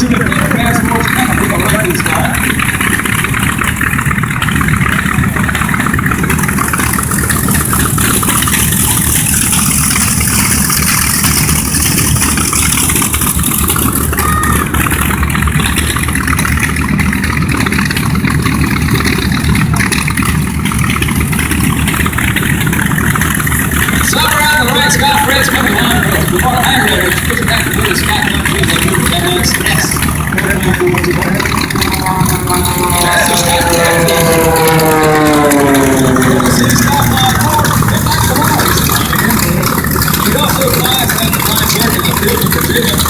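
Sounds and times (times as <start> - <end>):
airplane piston engine running: 0.0 - 43.0.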